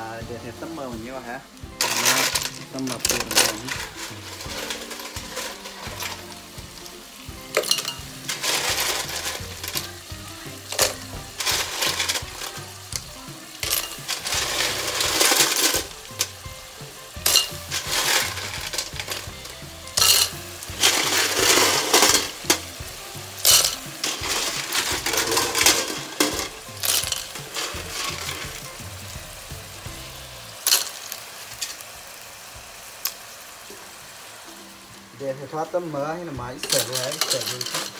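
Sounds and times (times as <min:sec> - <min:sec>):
sizzling: 0:00.0 - 0:37.9
snail shells clattering in metal pot: 0:01.8 - 0:29.2, 0:29.8 - 0:32.3, 0:36.5 - 0:37.9.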